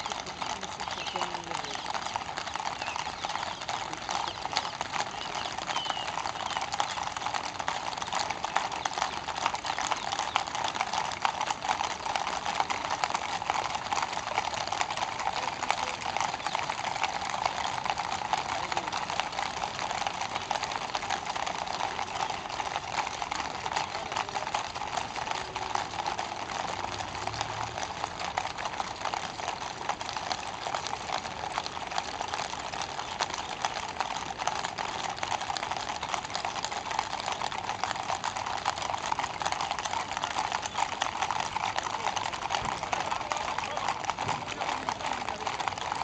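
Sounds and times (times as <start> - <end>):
horses' hooves clip-clopping on asphalt: 0.0 - 46.0
vehicle engines running: 0.0 - 46.0.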